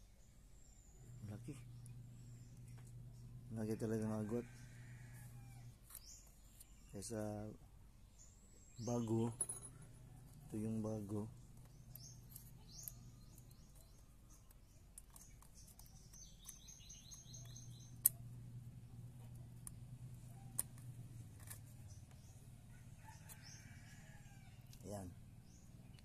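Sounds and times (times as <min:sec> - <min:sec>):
small bird chirping: 0:00.0 - 0:26.0
steady low hum: 0:00.0 - 0:26.0.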